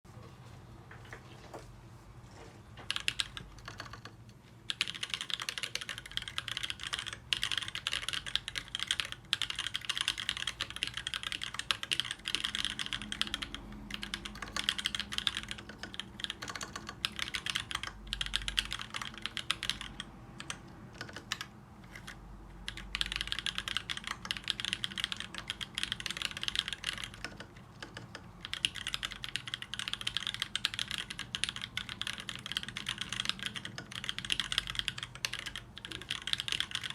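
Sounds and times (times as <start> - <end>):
fast typing on mechanical keyboard: 2.8 - 36.9.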